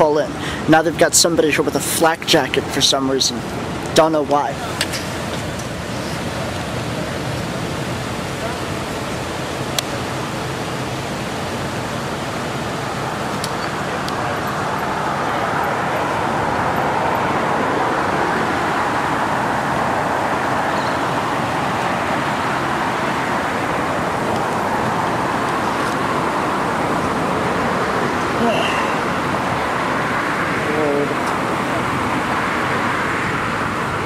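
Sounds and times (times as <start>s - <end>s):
road traffic rush: 0.0s - 34.0s.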